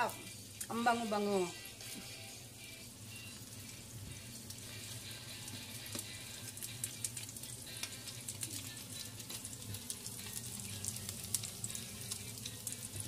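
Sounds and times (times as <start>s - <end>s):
meatballs sizzling in frying pan: 0.0s - 13.0s.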